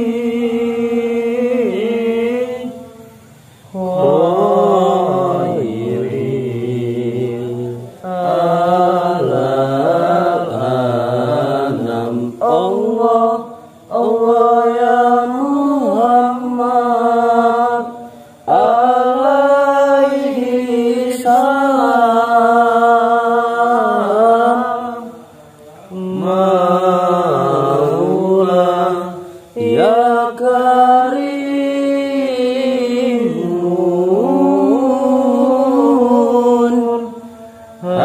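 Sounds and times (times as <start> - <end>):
person chanting devotional invocation: 0.0 - 38.0.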